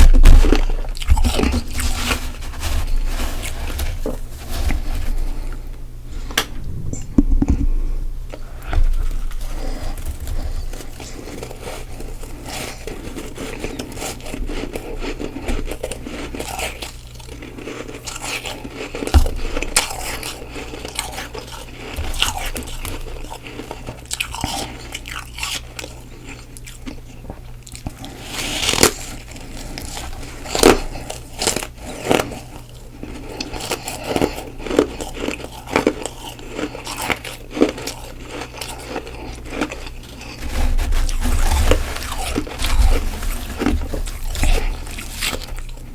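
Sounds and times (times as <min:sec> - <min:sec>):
chewing crunchy frost: 0:00.0 - 0:05.7, 0:08.3 - 0:45.9.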